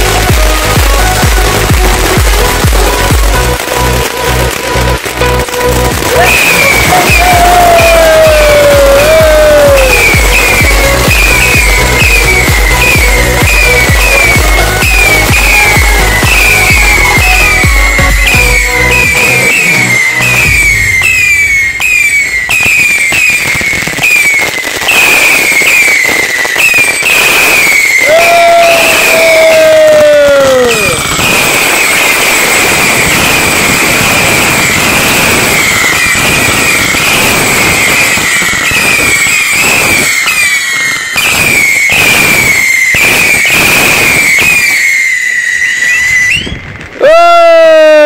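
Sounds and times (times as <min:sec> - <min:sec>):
firework fountain crackling hiss: 0:00.0 - 0:48.0
fireworks whistling: 0:00.0 - 0:48.0.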